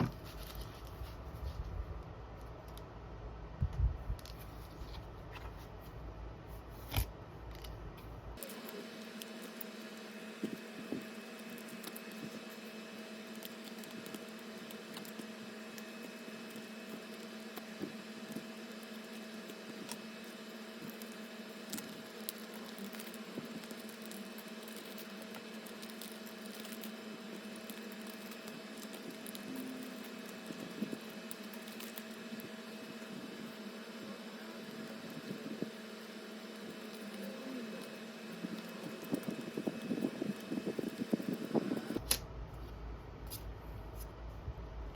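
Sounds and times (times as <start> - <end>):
steady background hum: 0.0 - 44.9.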